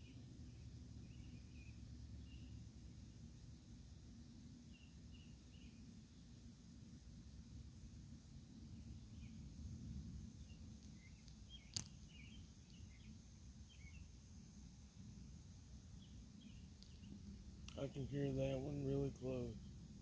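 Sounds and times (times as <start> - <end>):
faint bird chirps: 0.0 - 3.1, 4.1 - 6.4, 8.6 - 20.0
faint low rumble: 0.0 - 20.0.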